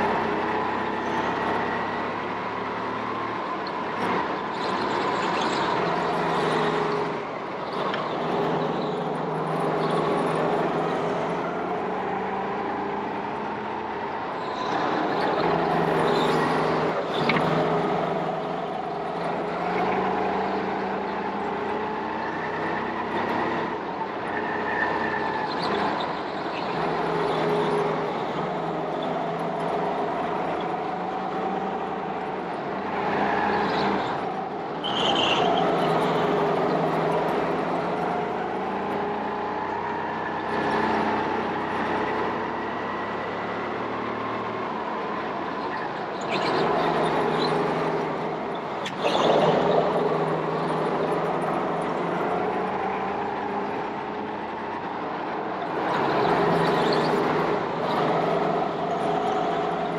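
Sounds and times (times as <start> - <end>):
go-kart motors droning: 0.0 - 59.9.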